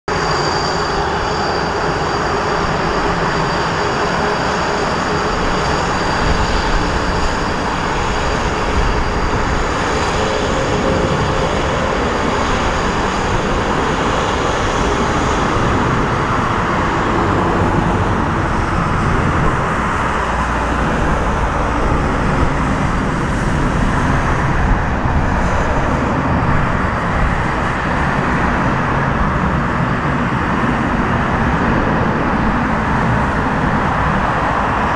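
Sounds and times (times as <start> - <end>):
jet engine rumble: 0.1 - 34.9.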